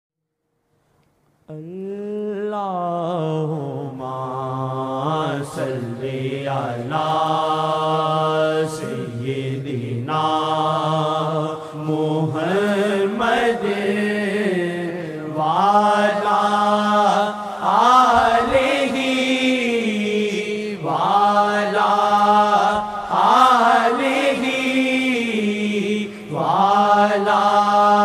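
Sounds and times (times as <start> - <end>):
solo voice singing: 1.5 - 28.0.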